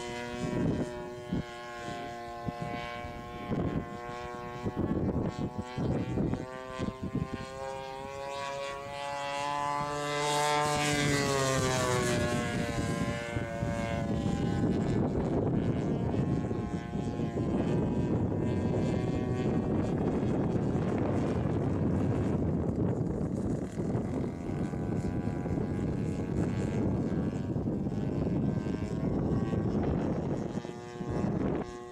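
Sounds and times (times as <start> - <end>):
light aircraft flying past: 0.0 - 31.9.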